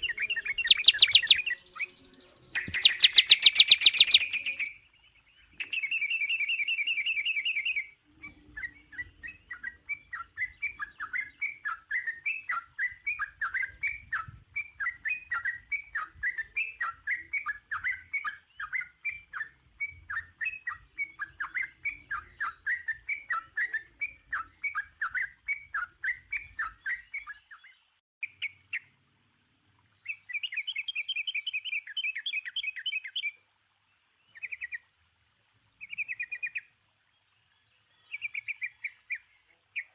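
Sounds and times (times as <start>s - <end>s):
songbird trilling and chirping: 0.0s - 28.9s, 29.8s - 33.4s, 34.3s - 34.9s, 37.9s - 39.9s.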